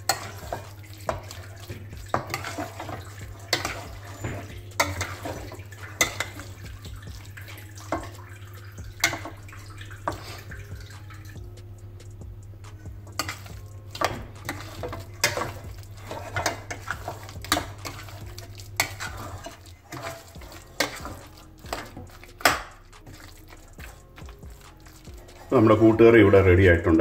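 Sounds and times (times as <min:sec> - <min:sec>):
spoon scraping a steel pot: 0:00.0 - 0:11.4, 0:12.7 - 0:26.4
low steady hum: 0:00.0 - 0:27.0.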